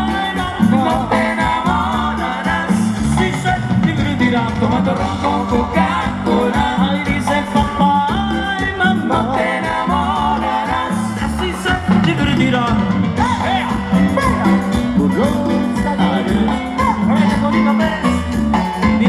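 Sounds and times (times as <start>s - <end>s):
latin dance band playing: 0.0s - 19.0s
steady bass line: 0.0s - 19.0s
wavering melodic lead: 0.0s - 19.0s.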